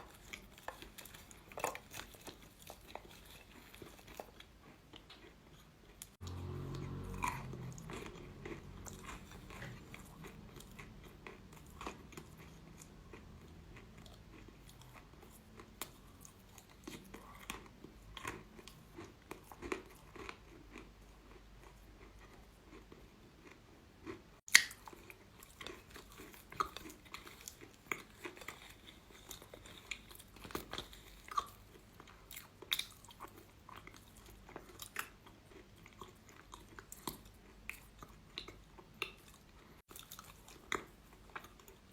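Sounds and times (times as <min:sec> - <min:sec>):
person chewing crunchy chalk: 0:00.0 - 0:41.9.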